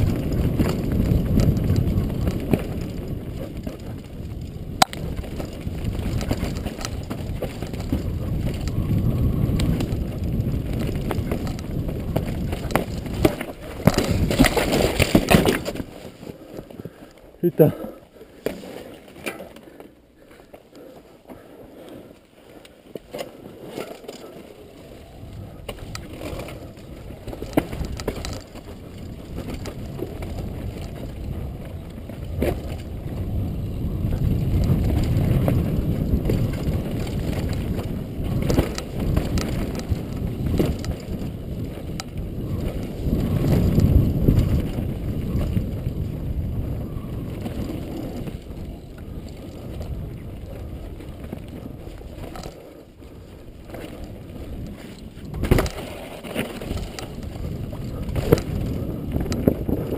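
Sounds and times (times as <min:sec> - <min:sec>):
bike knocks and rattles: 0:00.0 - 0:16.9, 0:25.6 - 0:52.6, 0:53.6 - 0:59.9
wind rumble on microphone: 0:00.0 - 0:17.0, 0:24.2 - 0:59.9
tyres on dirt and stones: 0:00.0 - 0:59.9.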